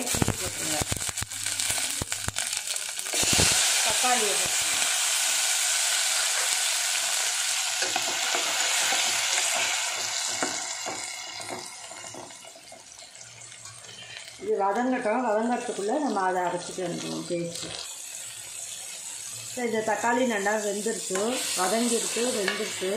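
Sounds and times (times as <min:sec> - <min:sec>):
tomatoes sizzling in hot oil: 0:00.0 - 0:22.9.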